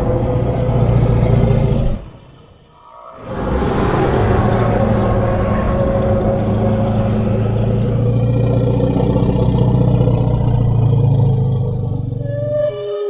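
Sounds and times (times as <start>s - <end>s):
deep creature growl: 0.0s - 12.4s.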